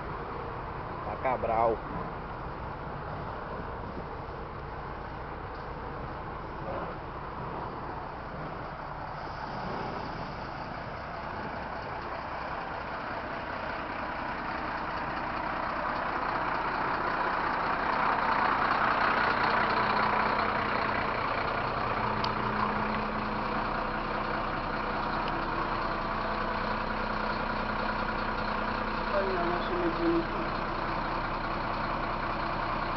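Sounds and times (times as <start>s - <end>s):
bus diesel engine running: 0.0s - 32.9s.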